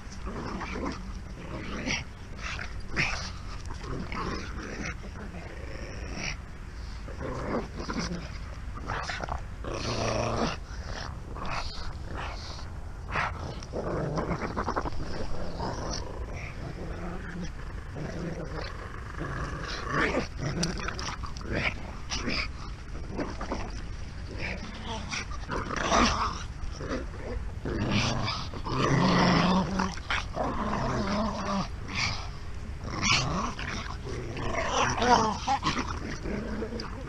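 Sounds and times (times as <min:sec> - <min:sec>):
dogs growling in play: 0:00.0 - 0:37.0
steady low rumble: 0:00.0 - 0:37.0.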